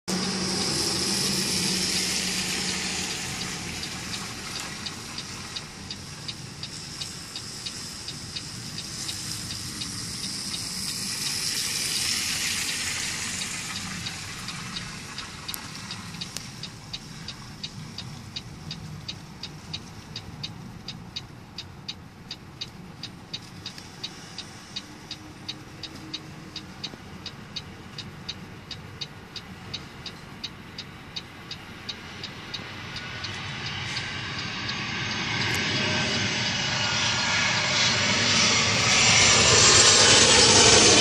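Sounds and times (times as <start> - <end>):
light ticking: 0.1 - 35.7
vehicle traffic hiss: 0.1 - 41.0.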